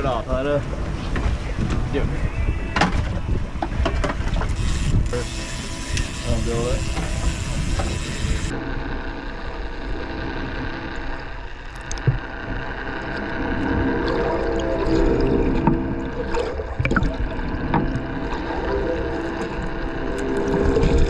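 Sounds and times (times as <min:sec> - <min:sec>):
boat motor hum: 0:00.0 - 0:21.0
water sloshing along hull: 0:00.0 - 0:21.0.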